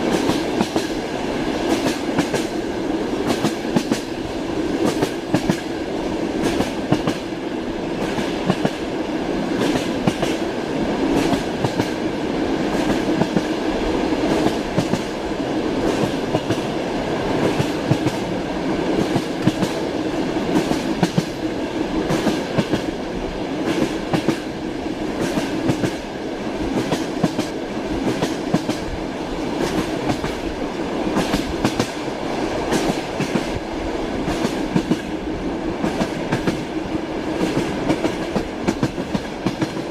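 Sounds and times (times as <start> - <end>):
rumble of moving train car: 0.0 - 39.9.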